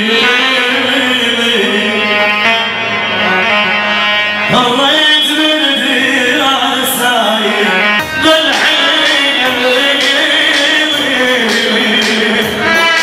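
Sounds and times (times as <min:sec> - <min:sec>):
man singing into microphone: 0:00.0 - 0:02.9, 0:04.4 - 0:13.0
instrumental backing music: 0:00.0 - 0:13.0.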